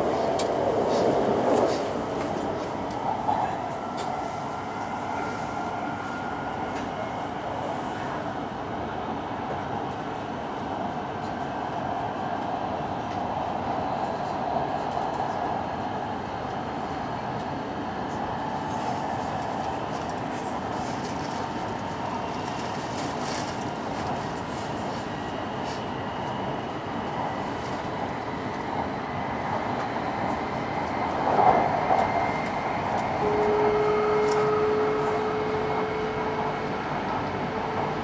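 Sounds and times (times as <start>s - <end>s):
air rushing past train: 0.0s - 38.0s
train wheels on rail: 0.0s - 38.0s.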